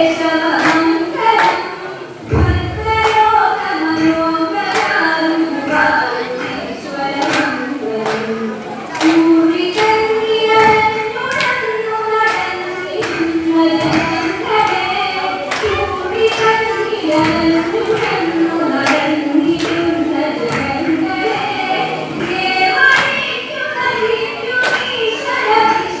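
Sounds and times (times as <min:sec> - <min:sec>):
women singing in unison: 0:00.0 - 0:26.0
hand claps: 0:00.5 - 0:03.3, 0:04.6 - 0:05.3, 0:06.4 - 0:25.2.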